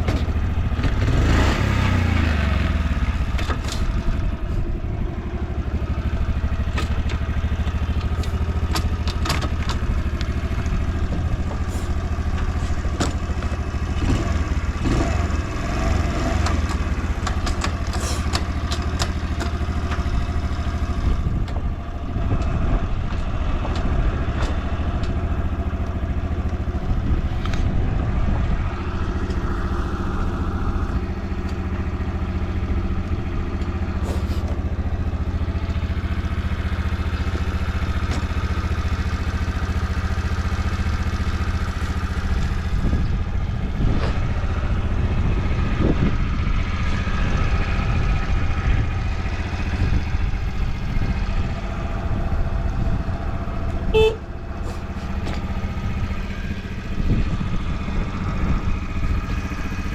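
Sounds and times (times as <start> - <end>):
small engine idling: 0.0 - 59.9.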